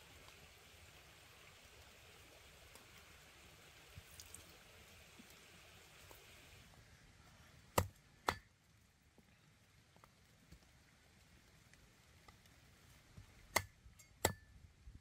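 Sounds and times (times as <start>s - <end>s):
faint hiss: 0.0s - 13.7s.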